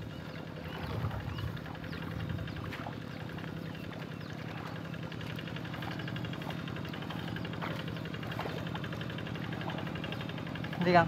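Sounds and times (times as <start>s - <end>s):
diesel engine clattering: 0.0s - 11.0s.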